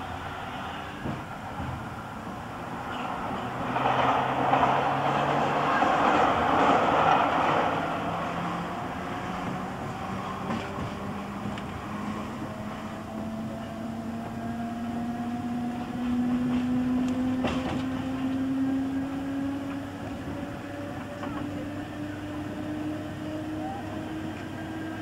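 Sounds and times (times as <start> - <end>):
train running noise: 0.0 - 25.0.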